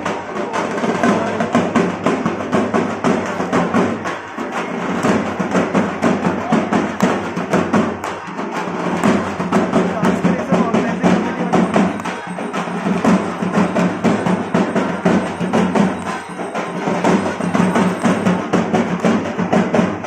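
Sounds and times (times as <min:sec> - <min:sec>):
barrel drums beaten with sticks: 0:00.0 - 0:20.0.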